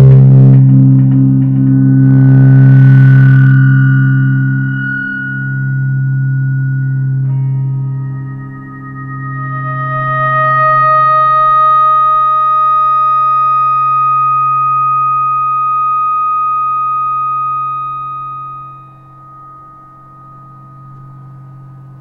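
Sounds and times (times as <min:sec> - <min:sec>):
faint low hum: 0:00.0 - 0:22.0
sustained electric guitar note: 0:00.0 - 0:22.0.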